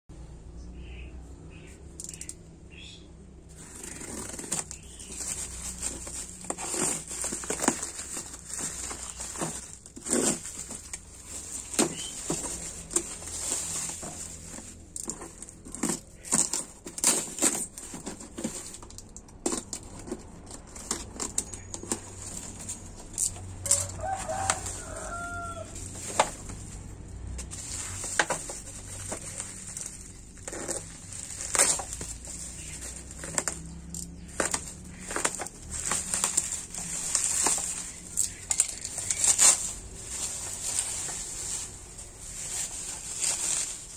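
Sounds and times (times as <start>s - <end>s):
cardboard and plastic rustling: 3.5s - 43.9s.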